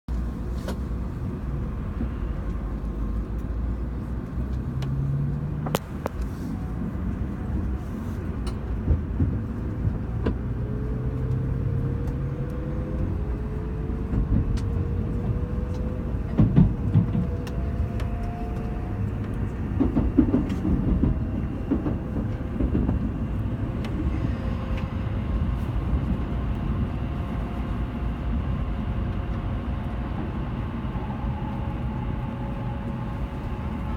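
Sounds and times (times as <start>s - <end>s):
train low rumble: 0.1s - 33.9s.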